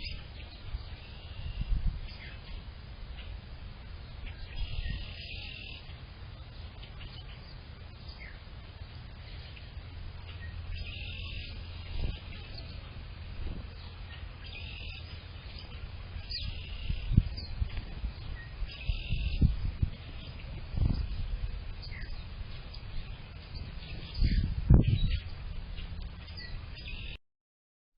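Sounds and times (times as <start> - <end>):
small songbirds singing: 0.0 - 27.2
wind on microphone: 0.0 - 27.2.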